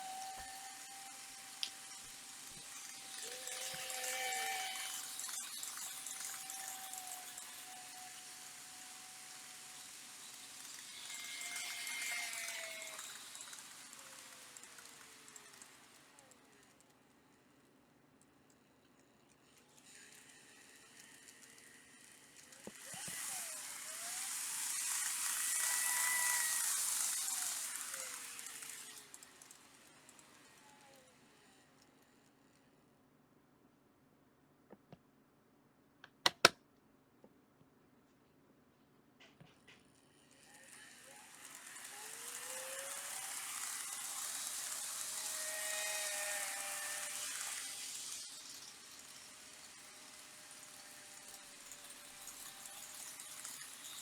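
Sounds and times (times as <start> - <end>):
train motor whine: 0.0 - 16.8, 19.5 - 32.7, 39.6 - 54.0
train wheel noise on track: 0.0 - 17.0, 19.4 - 32.6, 40.1 - 54.0.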